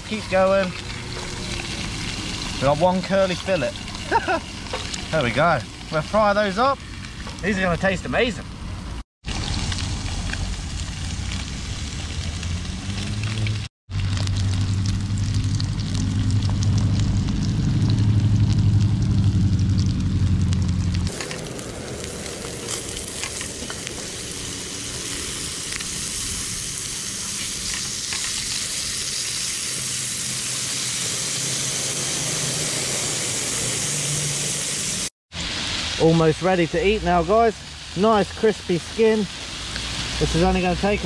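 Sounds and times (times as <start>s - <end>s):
fish sizzling in a frying pan: 0.0s - 7.6s, 9.2s - 41.0s.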